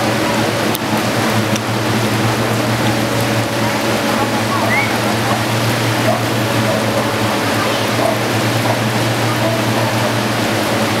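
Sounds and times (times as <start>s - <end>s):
low engine hum: 0.0s - 11.0s
water rushing through channel: 0.0s - 11.0s.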